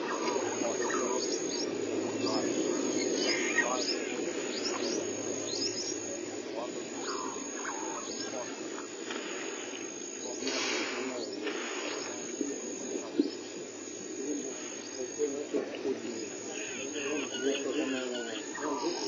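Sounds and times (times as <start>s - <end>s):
high-pitched insect trill: 0.0s - 15.4s, 16.1s - 19.0s
faint indistinct voices: 0.0s - 19.0s.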